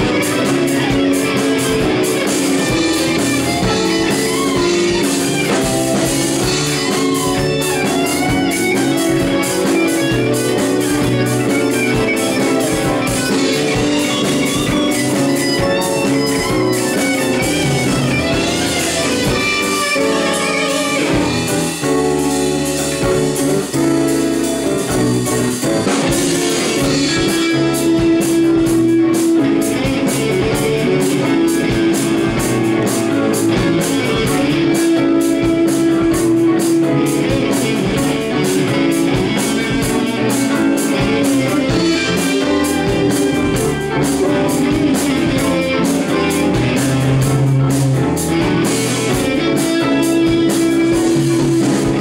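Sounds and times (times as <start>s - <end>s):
live rock band instrumental: 0.0s - 52.0s.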